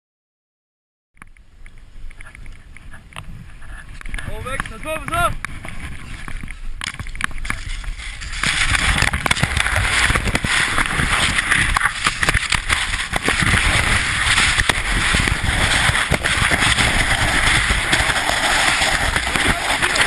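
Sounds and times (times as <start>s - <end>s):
scraping crackles: 1.2s - 20.0s
wind buffeting microphone: 1.4s - 20.0s
skis rushing over snow: 2.2s - 20.0s.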